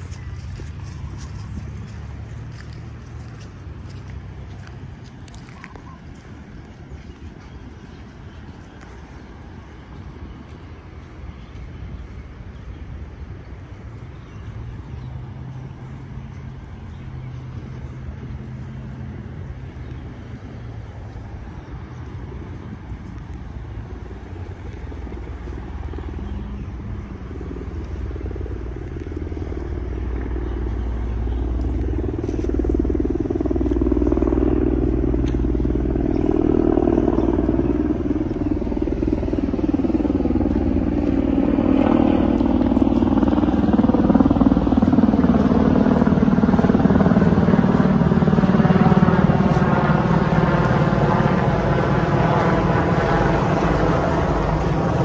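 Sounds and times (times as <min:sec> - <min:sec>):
aircraft engine droning overhead: 0:00.0 - 0:55.0.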